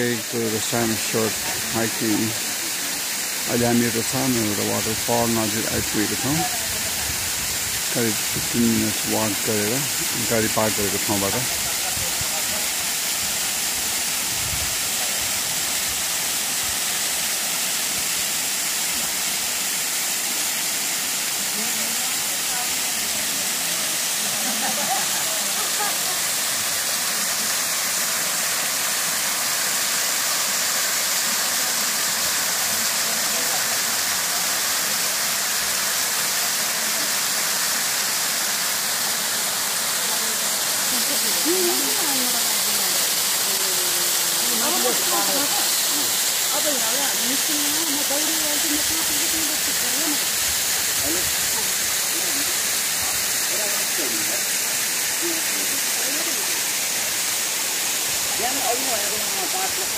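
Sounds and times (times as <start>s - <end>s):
waterfall and creek rushing: 0.0s - 59.9s.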